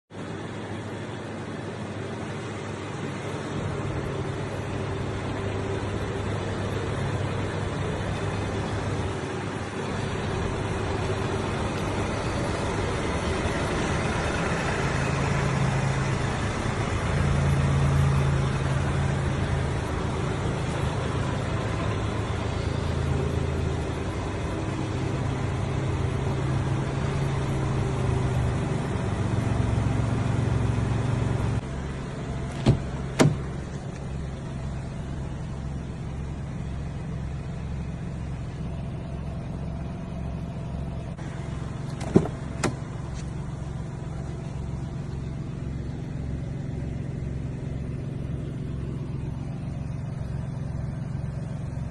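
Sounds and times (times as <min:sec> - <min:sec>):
car engine hum: 0:00.1 - 0:51.9.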